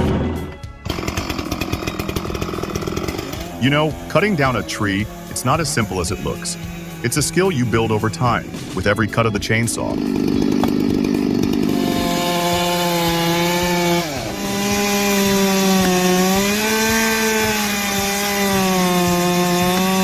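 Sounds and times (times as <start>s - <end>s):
chainsaw cutting wood: 0.3s - 20.0s.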